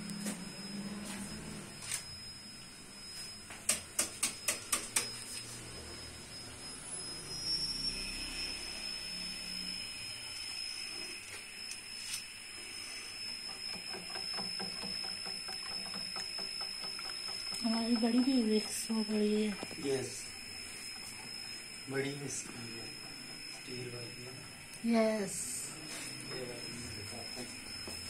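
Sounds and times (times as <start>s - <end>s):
thin high hum: 0.0s - 28.0s.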